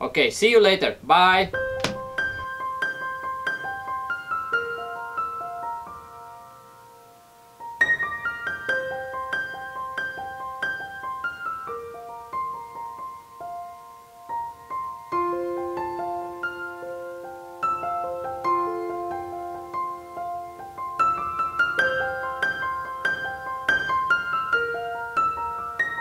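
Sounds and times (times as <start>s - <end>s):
slow piano melody: 1.5s - 26.0s.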